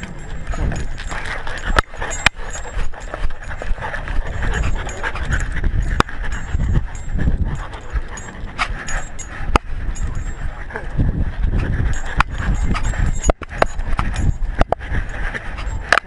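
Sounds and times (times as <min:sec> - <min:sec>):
collar clicks: 0:00.0 - 0:16.0
dog panting: 0:00.0 - 0:16.0.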